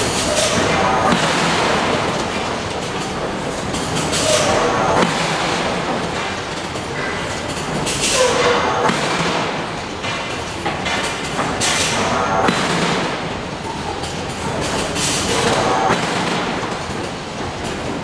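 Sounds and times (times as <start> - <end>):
machinery noise: 0.0 - 18.0.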